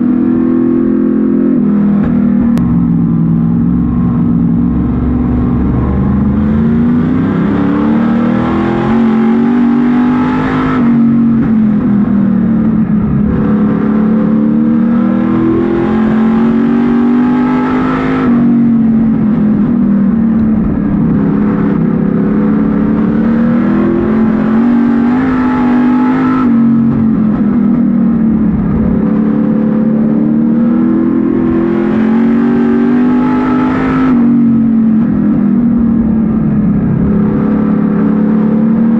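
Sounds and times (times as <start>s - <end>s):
race car engine at speed: 0.0s - 38.9s.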